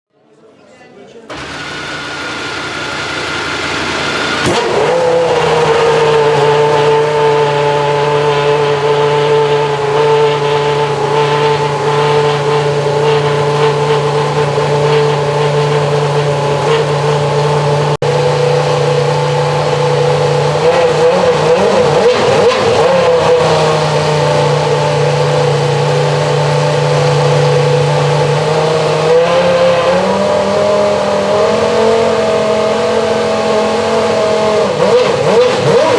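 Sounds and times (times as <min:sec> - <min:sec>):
racing car engine running: 0:01.3 - 0:35.9.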